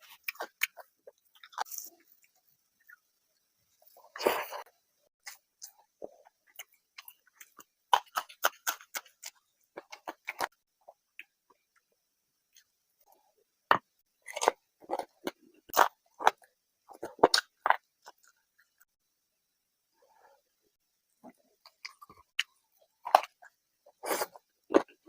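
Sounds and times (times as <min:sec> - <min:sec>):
person chewing food: 0:00.0 - 0:11.9, 0:13.7 - 0:19.0, 0:21.2 - 0:25.0.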